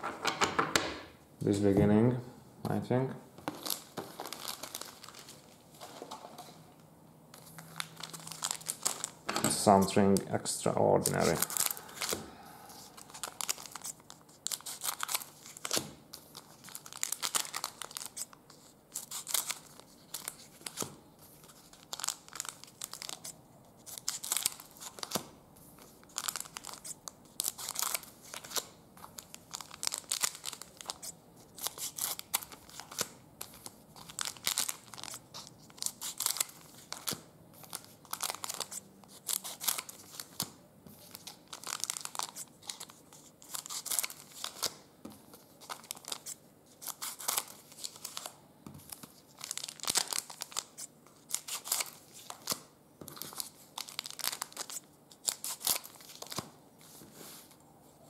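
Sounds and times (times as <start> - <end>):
card pack wrappers tearing crinkling: 3.5 - 5.6, 7.4 - 10.3, 10.9 - 12.2, 12.8 - 56.5.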